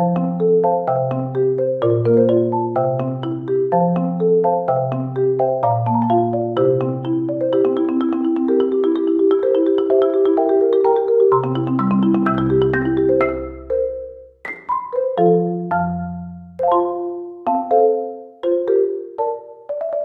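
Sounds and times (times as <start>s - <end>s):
light melody: 0.0s - 20.0s.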